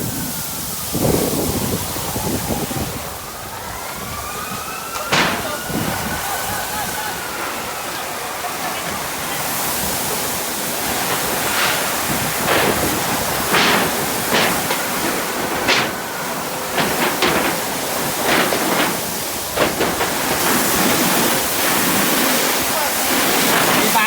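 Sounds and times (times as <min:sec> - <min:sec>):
water spraying from fire hose: 0:00.0 - 0:24.0.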